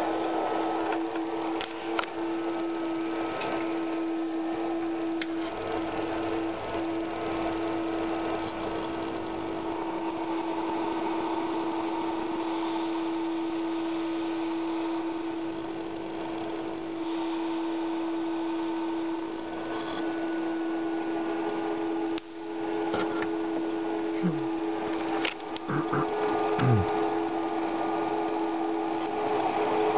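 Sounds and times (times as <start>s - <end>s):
steady electrical hum: 0.0s - 29.9s.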